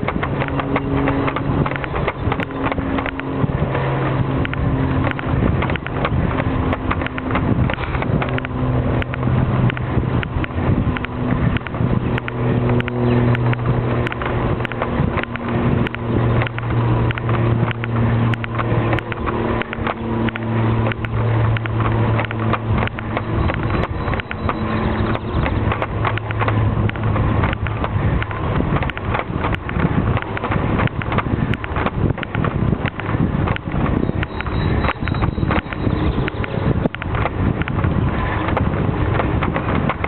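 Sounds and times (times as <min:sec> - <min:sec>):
vehicle engine running: 0:00.0 - 0:40.0
wind on microphone: 0:00.0 - 0:40.0.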